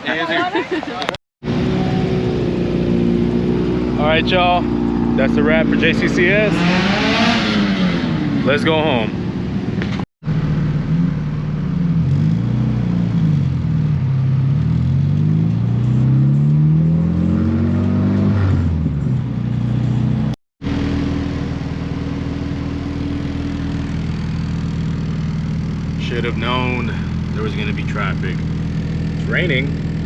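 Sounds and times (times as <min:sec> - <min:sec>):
car engine accelerating: 0:01.4 - 0:30.0.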